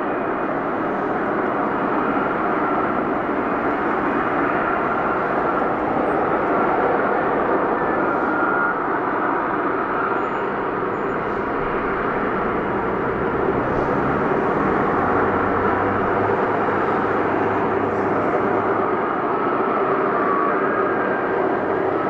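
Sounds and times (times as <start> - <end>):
jet roar: 0.0 - 21.8.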